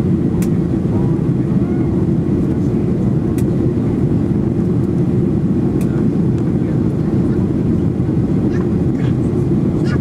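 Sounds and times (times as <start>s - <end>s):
airplane engine rumble: 0.0s - 10.0s.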